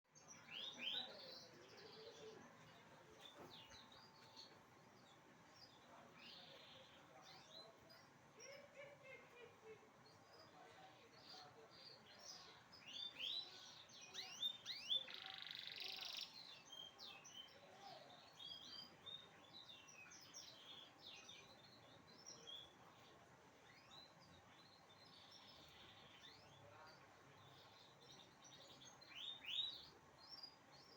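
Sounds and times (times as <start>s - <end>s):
songbirds chirping and twittering: 0.0s - 30.9s.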